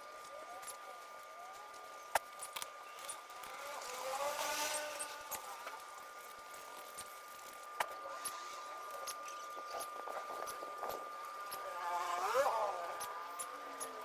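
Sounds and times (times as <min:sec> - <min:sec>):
steady high whine: 0:00.0 - 0:14.0.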